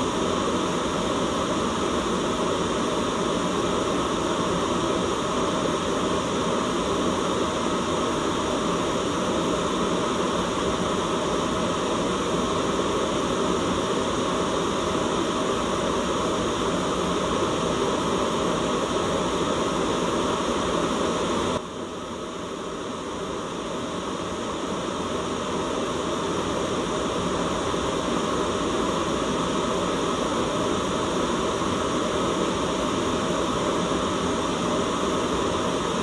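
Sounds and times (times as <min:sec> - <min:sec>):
steady white noise hiss: 0:00.0 - 0:36.0.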